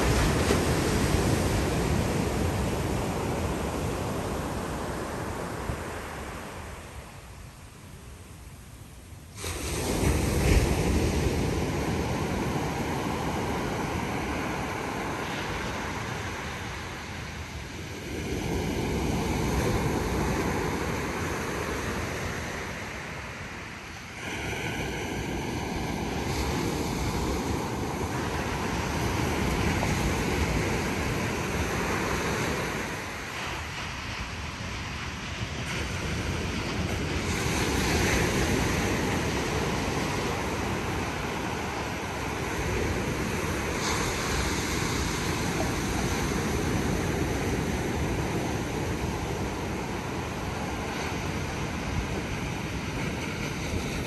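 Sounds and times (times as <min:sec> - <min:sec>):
ocean surf on sandy beach: 0:00.0 - 0:54.0.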